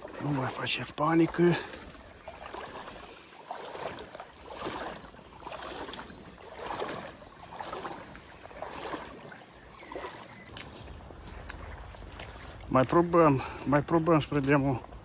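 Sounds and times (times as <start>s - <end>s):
legs wading through water: 0.0s - 15.0s.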